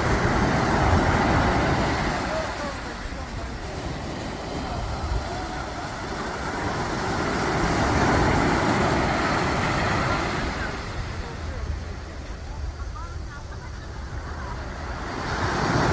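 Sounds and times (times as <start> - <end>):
sea surf breaking on beach: 0.0 - 15.9.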